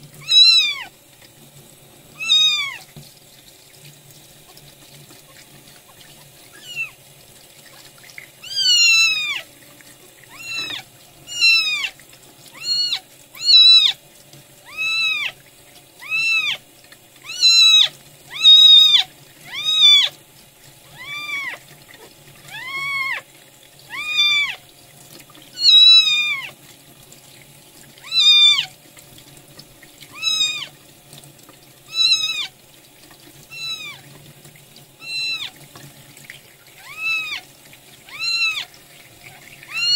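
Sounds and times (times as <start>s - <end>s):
running tap water: 0.0s - 39.9s.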